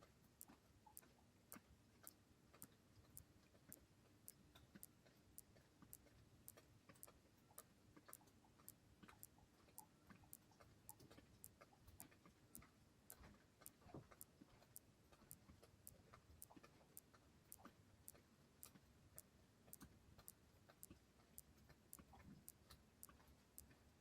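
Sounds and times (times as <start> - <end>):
faint steady ticking: 0.0 - 24.0.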